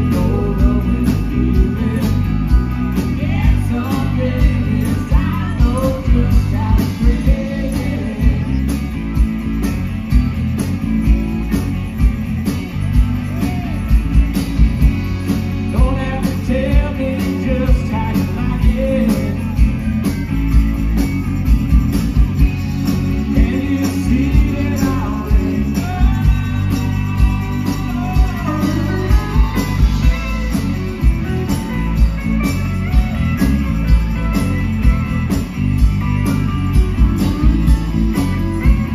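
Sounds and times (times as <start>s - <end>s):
live country rock band: 0.0s - 38.9s.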